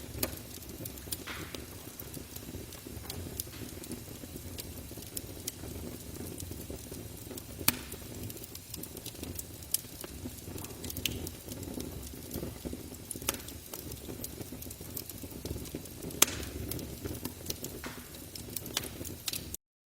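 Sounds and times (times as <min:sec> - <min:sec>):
burning wood popping: 0:00.0 - 0:19.6
campfire crackling: 0:00.0 - 0:19.6.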